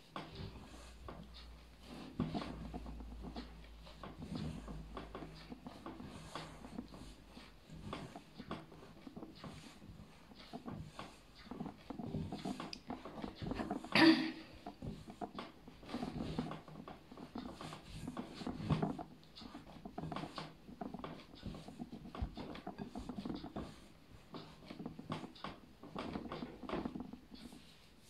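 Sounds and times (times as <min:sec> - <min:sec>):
hands kneading wet dough: 0:00.0 - 0:28.0.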